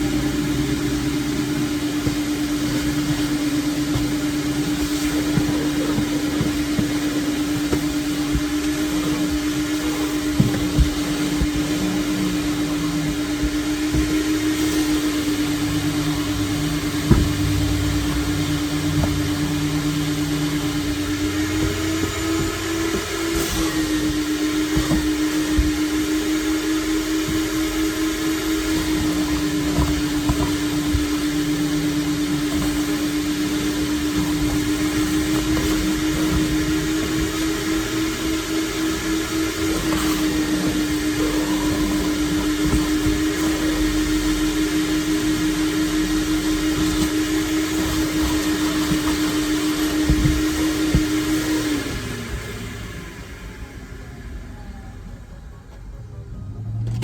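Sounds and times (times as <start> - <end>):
vacuum cleaner motor humming: 0.0 - 57.0.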